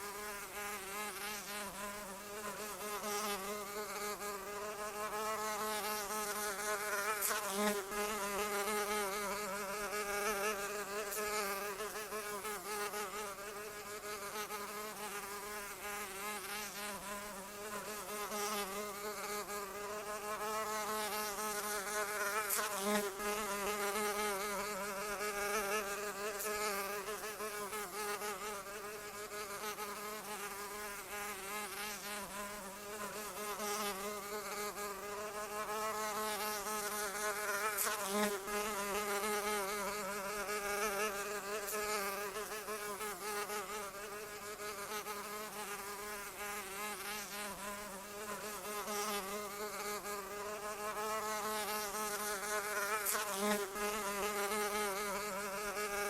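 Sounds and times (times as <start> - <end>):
fly buzzing: 0.0 - 56.0.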